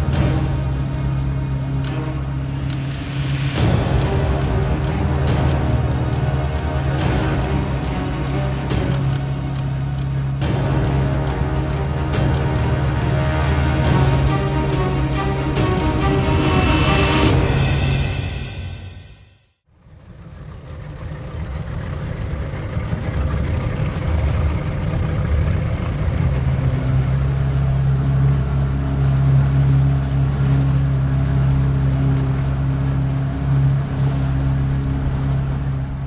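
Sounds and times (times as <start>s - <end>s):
boat motor running: 0.0s - 18.1s, 19.8s - 36.0s.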